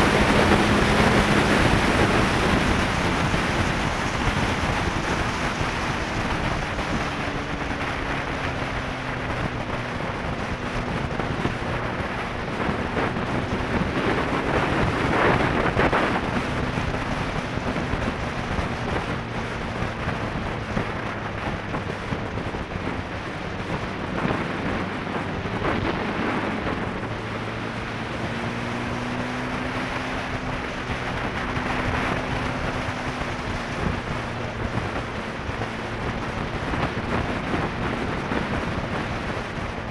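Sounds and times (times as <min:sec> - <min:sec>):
motorcycle engine hum: 0:00.0 - 0:39.9
wind buffeting microphone: 0:00.0 - 0:39.9.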